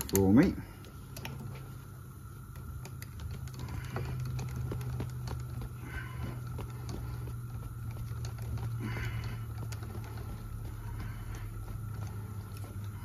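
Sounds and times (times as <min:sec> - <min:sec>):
rolling tool humming with clicks: 0:00.0 - 0:13.0.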